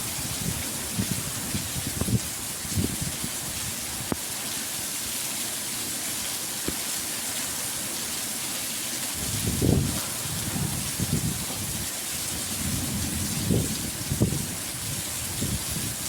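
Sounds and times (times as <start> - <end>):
heavy rain hiss: 0.0 - 16.0.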